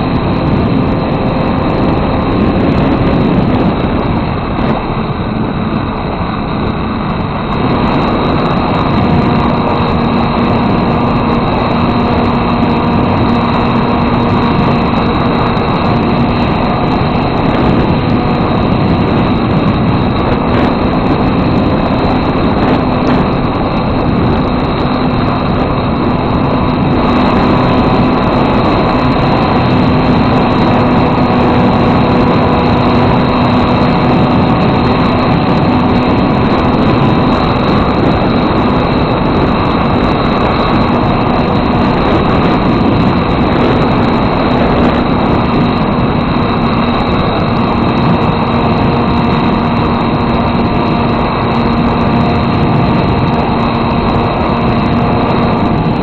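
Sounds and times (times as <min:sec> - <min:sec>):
model airplane motor buzzing: 0:00.0 - 0:56.0
wind noise: 0:00.0 - 0:56.0.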